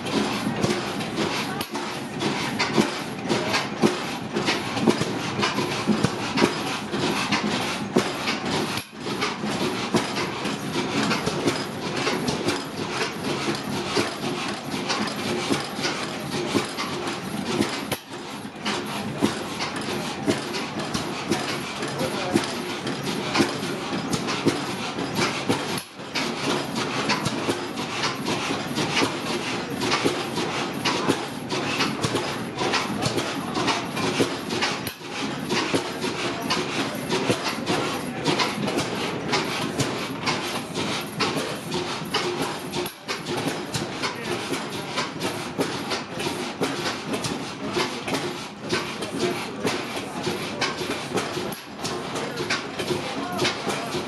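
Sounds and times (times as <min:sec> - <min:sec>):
stationary engines clattering: 0:00.0 - 0:54.0.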